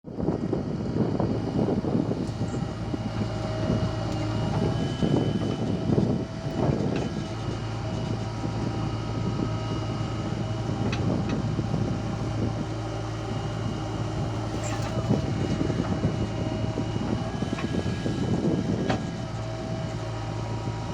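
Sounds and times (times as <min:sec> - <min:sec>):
diesel engine running: 0:00.1 - 0:20.9.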